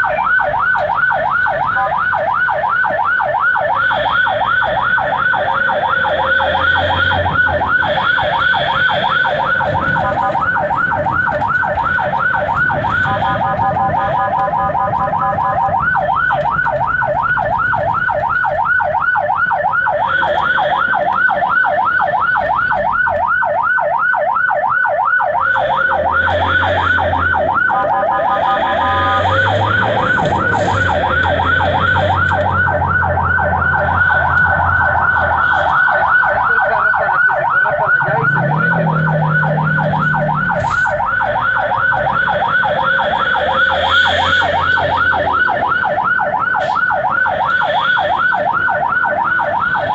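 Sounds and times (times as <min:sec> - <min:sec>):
ambulance siren wailing: 0:00.0 - 0:49.9.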